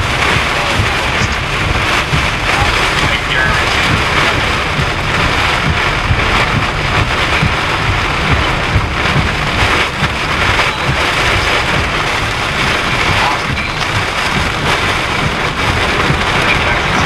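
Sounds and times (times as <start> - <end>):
heavy rain pelting a vehicle: 0.0 - 17.0
wind buffeting a vehicle: 0.0 - 17.0.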